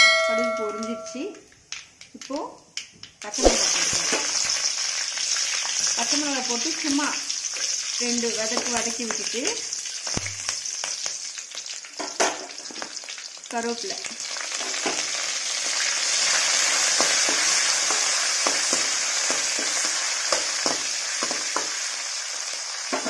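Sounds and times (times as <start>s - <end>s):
chillies sizzling in hot oil: 0.5s - 23.0s.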